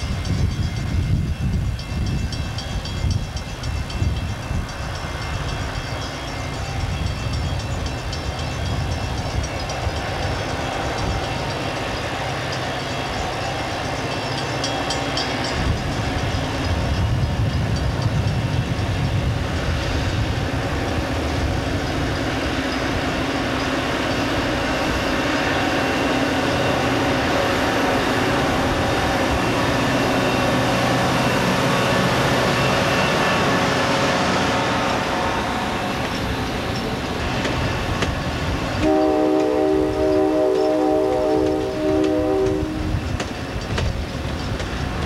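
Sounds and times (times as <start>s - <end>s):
wheel-on-rail noise: 0.0s - 45.0s.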